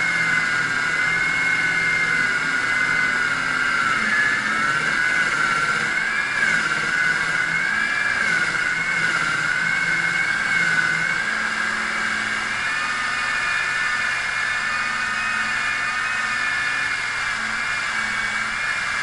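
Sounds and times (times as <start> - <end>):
motor whining: 0.0 - 19.0.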